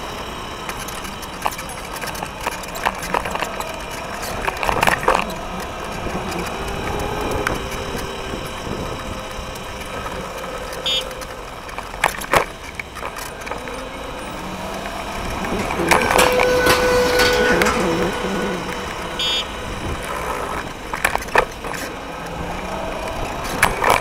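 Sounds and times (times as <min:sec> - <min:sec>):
road and wind noise: 0:00.0 - 0:24.0
scooter rattling: 0:00.0 - 0:24.0.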